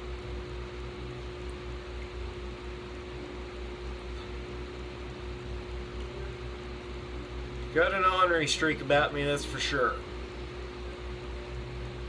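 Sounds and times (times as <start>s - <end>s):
small machine hissing and humming: 0.0s - 12.0s.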